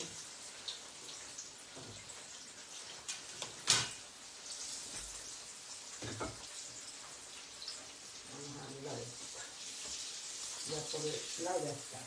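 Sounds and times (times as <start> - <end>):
fish frying in oil: 0.0 - 12.0
oil popping and crackling: 0.0 - 12.0.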